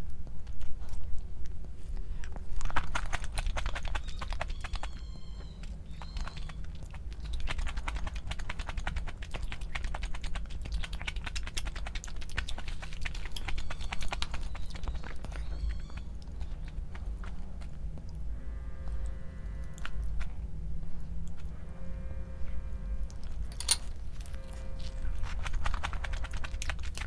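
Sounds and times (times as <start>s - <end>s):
chewing with wet mouth clicks: 0.0s - 18.3s, 18.9s - 21.5s, 23.1s - 27.0s
steady low hum: 0.0s - 27.0s.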